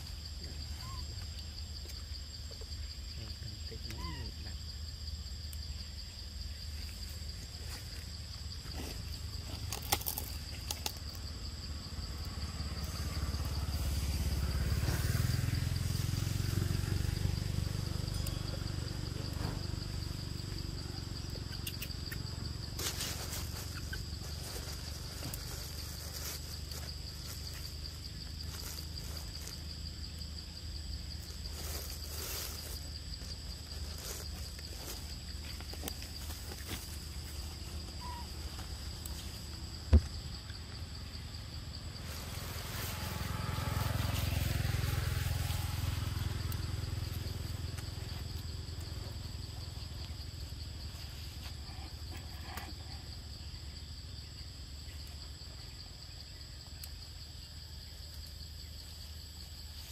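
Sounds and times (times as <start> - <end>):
high-pitched insect drone: 0.0 - 59.9.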